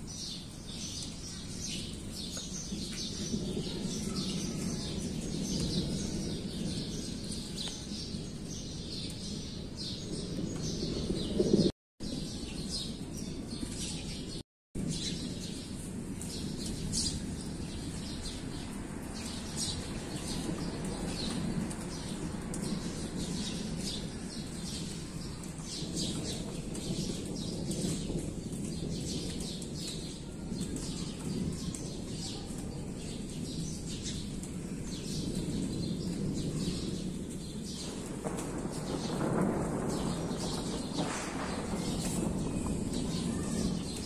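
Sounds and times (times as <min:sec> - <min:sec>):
small birds chirping: 0:00.1 - 0:44.0.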